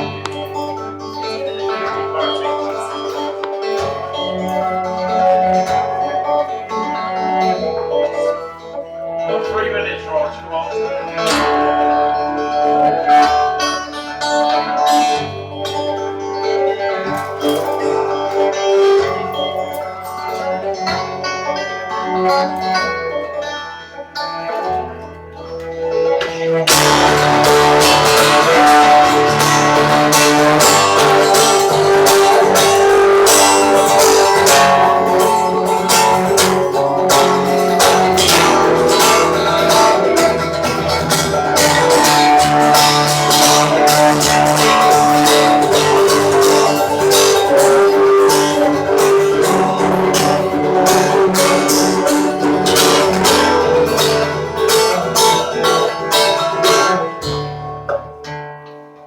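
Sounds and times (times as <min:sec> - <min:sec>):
cello bowed notes: 0:00.0 - 0:58.0
acoustic guitar strummed: 0:00.0 - 0:59.0.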